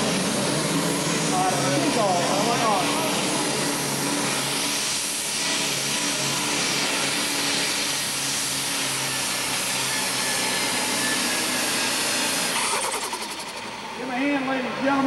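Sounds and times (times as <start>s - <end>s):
diesel engine roaring under load: 0.0s - 15.0s.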